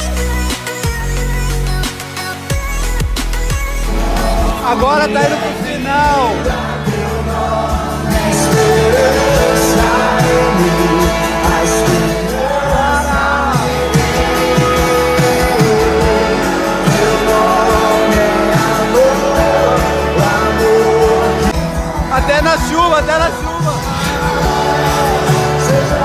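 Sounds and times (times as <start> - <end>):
acoustic guitar and band: 0.0 - 26.0
man singing worship music: 3.8 - 26.0.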